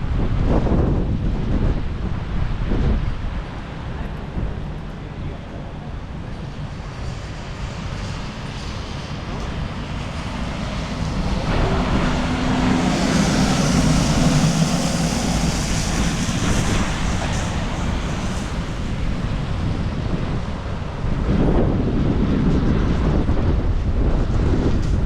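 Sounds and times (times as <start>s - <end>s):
vehicle engine hum: 0.0s - 23.2s
wind buffeting microphone: 0.0s - 25.0s
tyres hissing on wet road: 0.3s - 21.3s.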